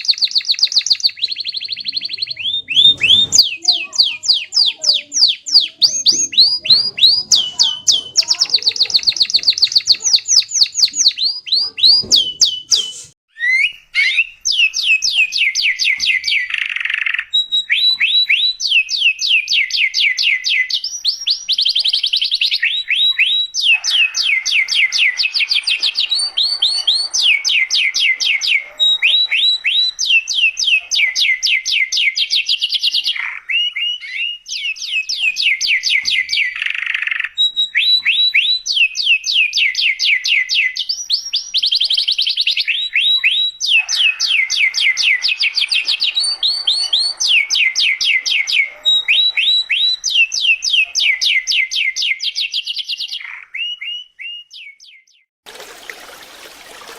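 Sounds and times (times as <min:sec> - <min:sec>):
canary singing trills: 0:00.0 - 0:55.3
lower bird calls: 0:00.0 - 0:55.3.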